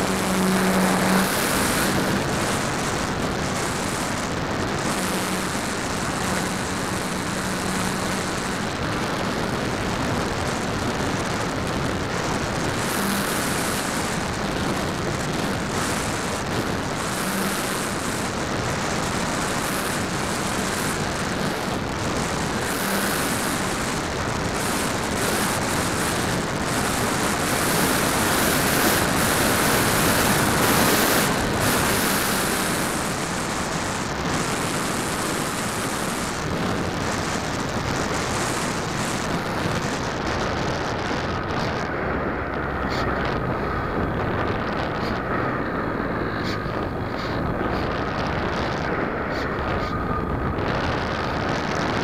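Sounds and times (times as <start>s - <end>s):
electric motor and propeller whine: 0.0s - 52.0s
wind rushing over microphone: 0.0s - 52.0s.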